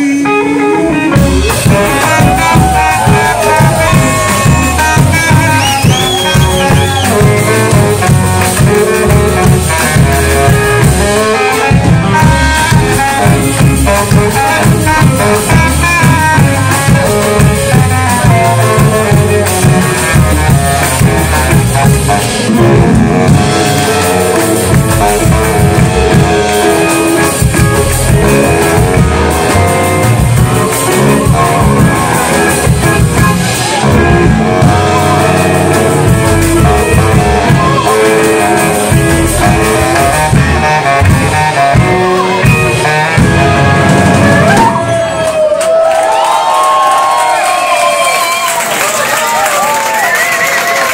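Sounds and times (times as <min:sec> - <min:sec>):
horn melody: 0:00.0 - 0:45.3
live band playing: 0:00.0 - 0:50.9.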